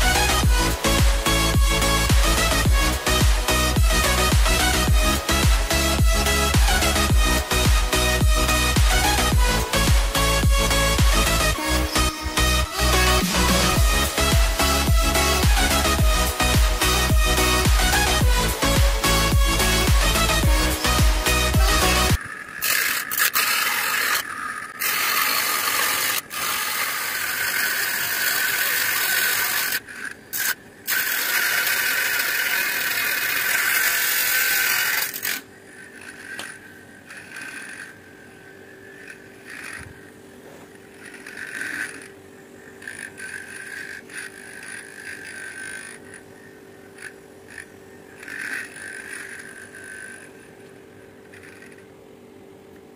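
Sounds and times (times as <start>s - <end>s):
cutting disc grinding plastic: 0.0s - 52.9s.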